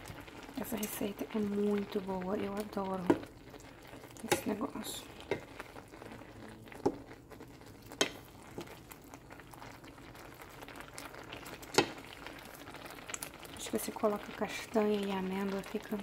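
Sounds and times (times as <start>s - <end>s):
wooden spoon stirring: 0.0s - 14.4s
milk bubbling in a pan: 0.0s - 16.0s.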